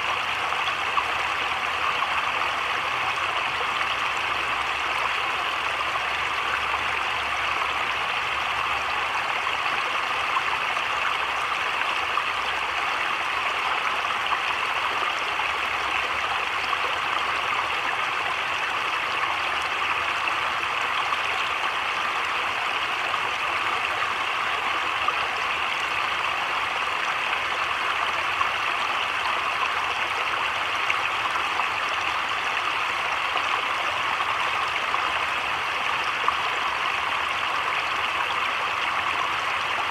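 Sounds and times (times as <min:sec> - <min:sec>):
heavy rain on water and leaves: 0:00.0 - 0:39.9.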